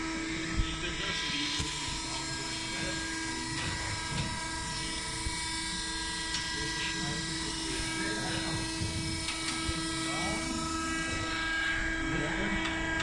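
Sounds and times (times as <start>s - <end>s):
motors humming and whining: 0.0s - 13.0s.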